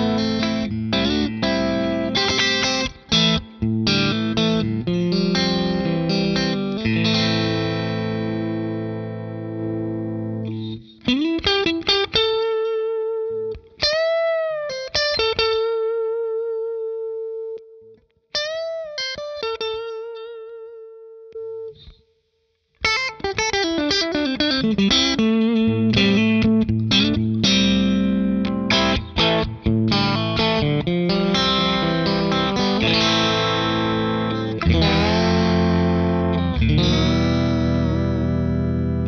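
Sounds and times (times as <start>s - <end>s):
electric guitar notes: 0.0s - 21.9s, 22.8s - 39.0s.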